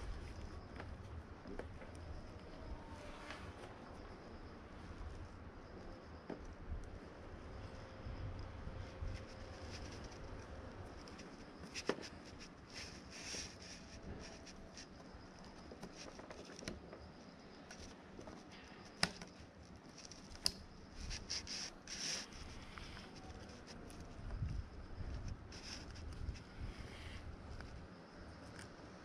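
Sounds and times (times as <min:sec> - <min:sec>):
faint plastic rustling: 0:00.0 - 0:28.8.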